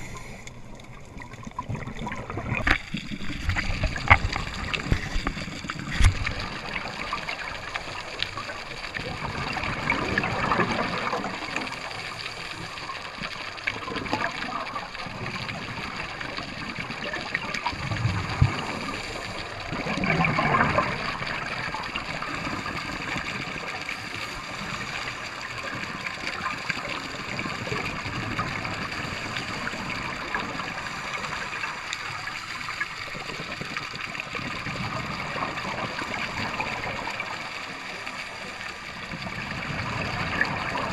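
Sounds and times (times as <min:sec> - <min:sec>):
underwater bubbles gurgling: 0:00.0 - 0:40.9.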